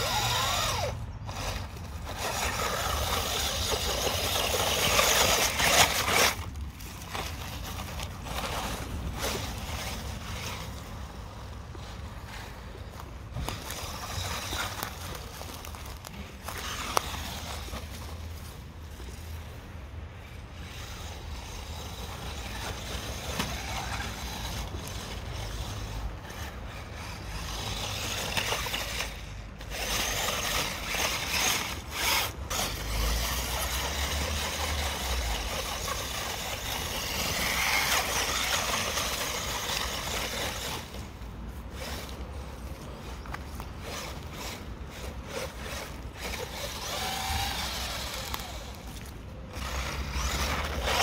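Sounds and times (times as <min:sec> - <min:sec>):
dry leaves rustling and crunching: 0:00.0 - 0:51.0.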